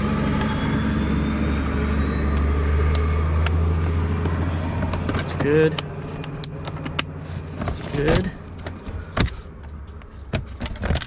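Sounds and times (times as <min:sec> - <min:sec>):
low motor hum: 0:00.0 - 0:10.9.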